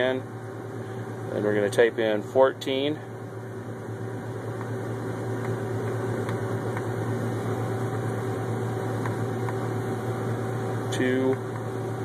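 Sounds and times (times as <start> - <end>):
combine engine droning: 0.0 - 12.0.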